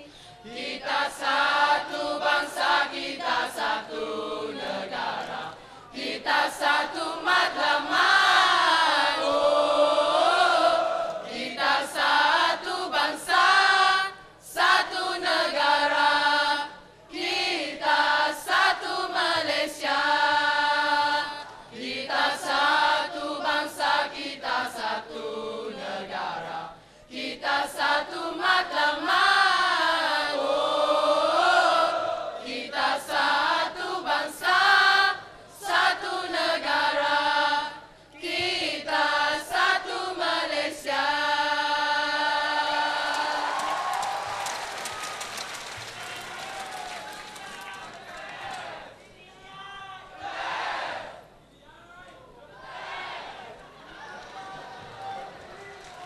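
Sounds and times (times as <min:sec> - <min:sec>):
mixed choir singing in harmony: 0:00.0 - 0:44.3, 0:50.2 - 0:51.3, 0:52.6 - 0:53.6.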